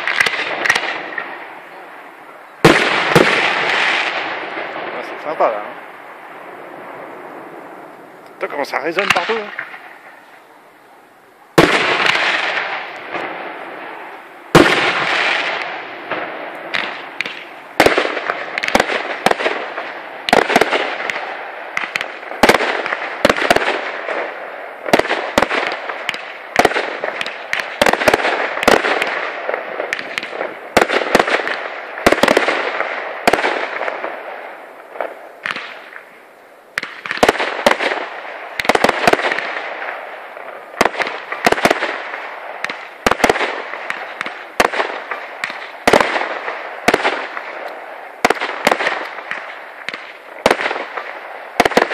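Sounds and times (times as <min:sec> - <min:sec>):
fireworks bangs echoing: 0:00.0 - 0:10.2, 0:11.5 - 0:51.9.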